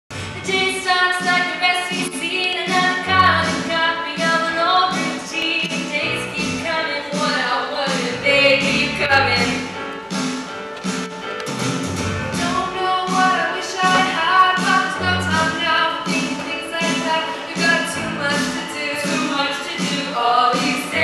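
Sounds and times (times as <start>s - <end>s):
instrumental accompaniment: 0.1s - 21.0s
women singing: 0.4s - 9.6s, 12.4s - 21.0s.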